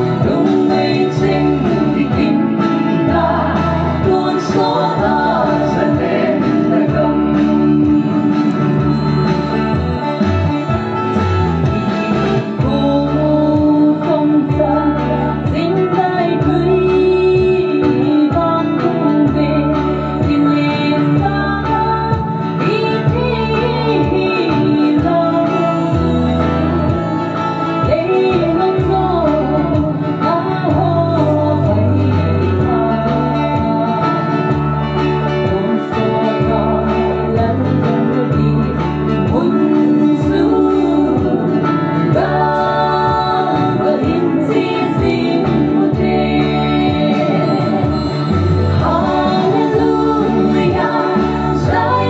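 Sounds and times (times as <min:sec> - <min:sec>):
backing music with bass line: 0:00.0 - 0:52.0
woman singing into microphone: 0:00.0 - 0:52.0.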